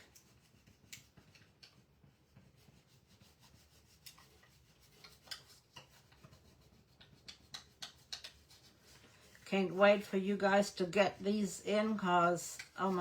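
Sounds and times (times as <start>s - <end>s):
faint rubbing: 2.0s - 13.0s.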